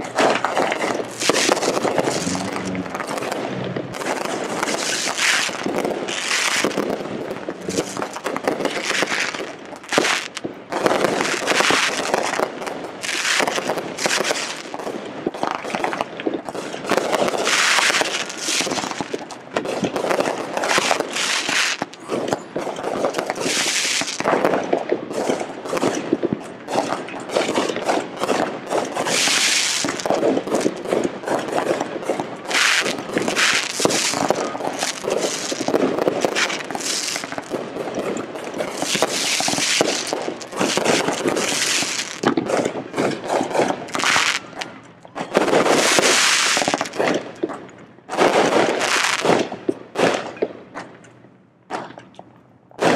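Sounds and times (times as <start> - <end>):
fireworks bangs: 0.0 - 50.9.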